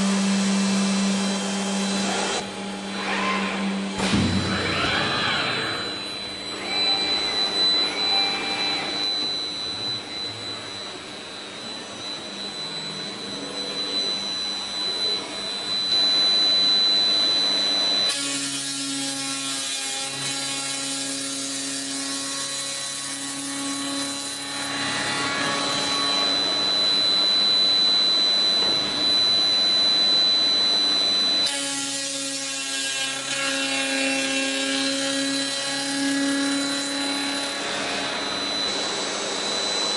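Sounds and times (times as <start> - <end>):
machine whine with sawing: 0.0 - 39.9.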